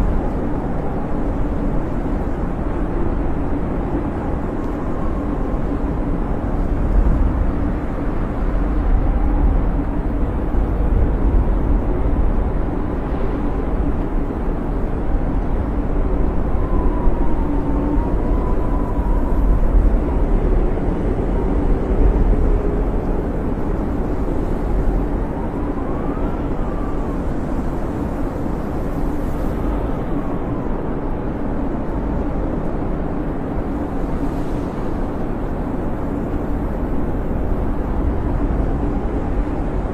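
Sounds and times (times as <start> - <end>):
faint wind whistle: 0.0 - 39.9
wind blowing in low rumble: 0.0 - 39.9.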